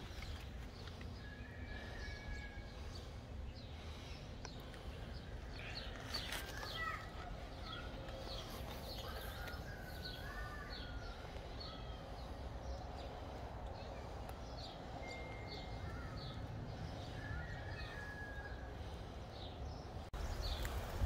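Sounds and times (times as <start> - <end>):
birds chirping: 0.0 - 21.0
low outdoor rumble: 0.0 - 21.0.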